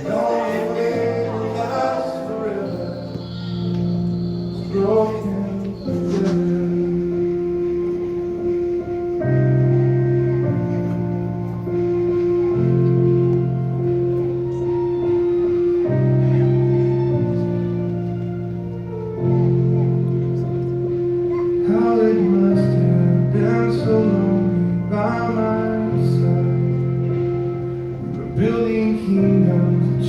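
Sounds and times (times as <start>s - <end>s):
slow keyboard ballad: 0.0s - 30.0s.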